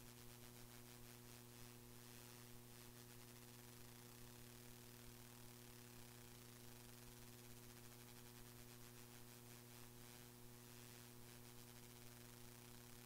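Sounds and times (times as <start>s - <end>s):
faint electrical hum and hiss: 0.0s - 13.0s.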